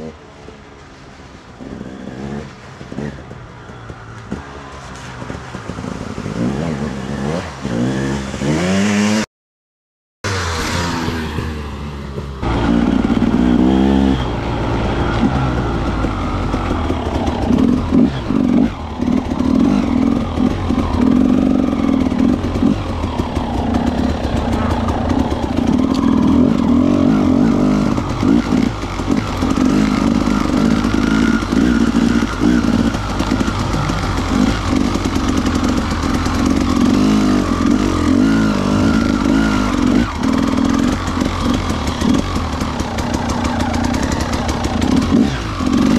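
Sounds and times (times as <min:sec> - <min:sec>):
motorcycle engine revving: 0:01.6 - 0:09.3, 0:10.2 - 0:45.9.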